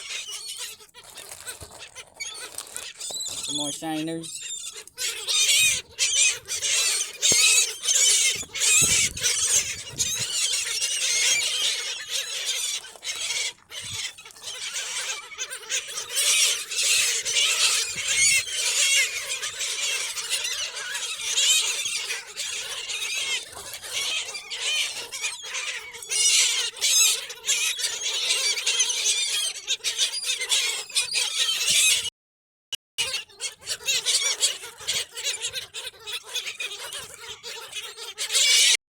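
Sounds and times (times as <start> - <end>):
seagulls squealing: 0.0 - 32.1, 33.0 - 38.8.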